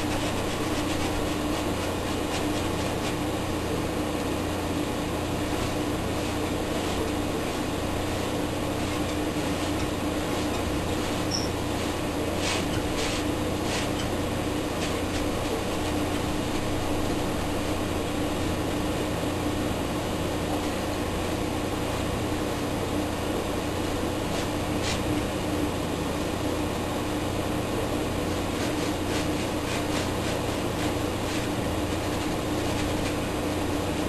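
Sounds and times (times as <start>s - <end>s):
machine hum and hiss: 0.0s - 34.0s.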